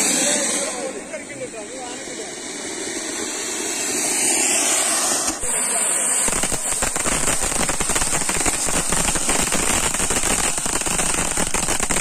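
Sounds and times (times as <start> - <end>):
firework fountain hissing and crackling: 0.0 - 12.0.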